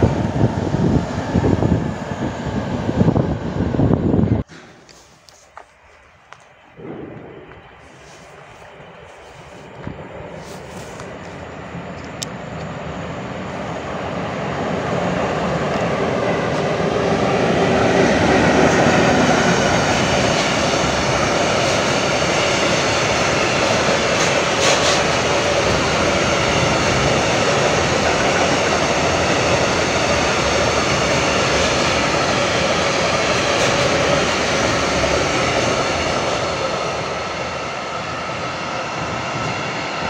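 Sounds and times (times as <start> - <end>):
freight train rumbling past: 0.0 - 5.0, 6.6 - 40.0.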